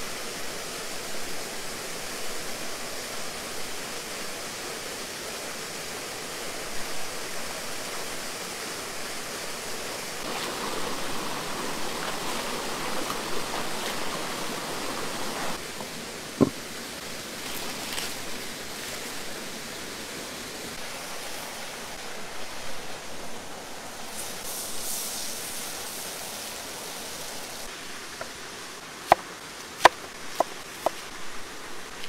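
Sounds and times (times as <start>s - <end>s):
waterfall and stream rushing: 0.0s - 32.0s.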